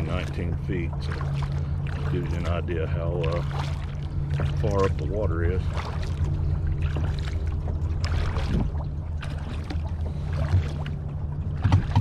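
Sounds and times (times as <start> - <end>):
paddle strokes splashing water: 0.0 - 12.0
steady low rumble: 0.0 - 12.0.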